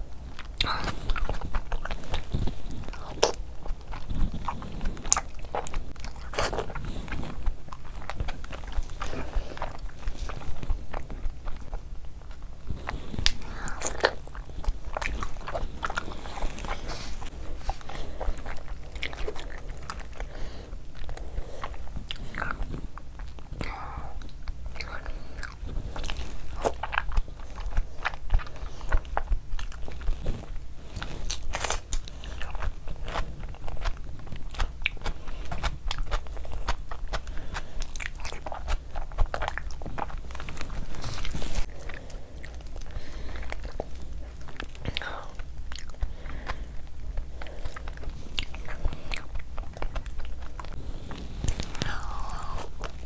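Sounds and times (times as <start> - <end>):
food crunching: 0.0 - 53.0
wet chewing and biting: 0.0 - 53.0.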